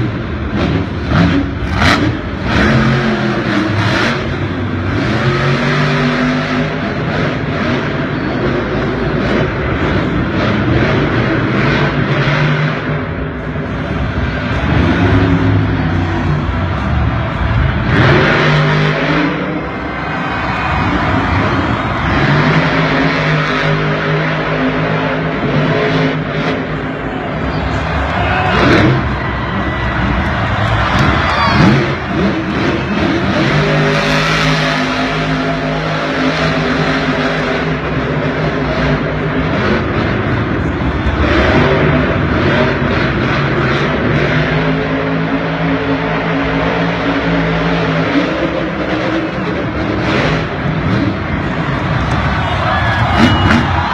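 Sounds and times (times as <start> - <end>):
monster truck engine revving: 0.0 - 53.9.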